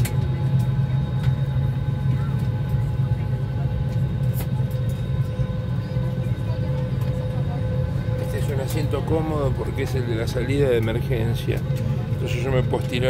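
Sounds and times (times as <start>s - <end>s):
airliner cabin hum: 0.0s - 13.0s
faint murmur of passengers: 0.0s - 13.0s.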